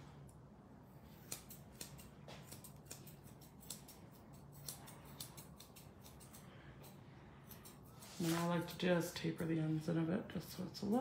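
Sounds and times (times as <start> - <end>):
scissors snipping fur: 0.2 - 9.7.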